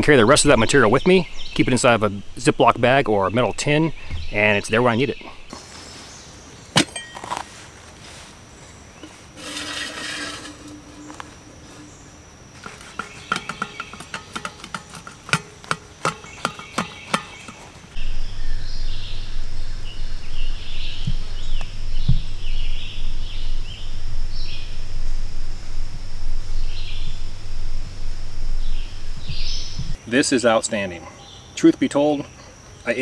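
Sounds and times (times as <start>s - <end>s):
birds chirping: 0.0s - 7.2s, 8.5s - 25.2s, 26.5s - 33.0s
steady low hum: 0.0s - 30.1s.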